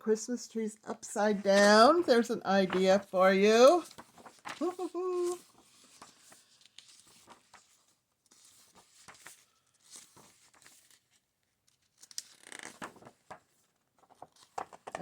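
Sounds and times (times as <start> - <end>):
book pages rustling: 0.9 - 15.0.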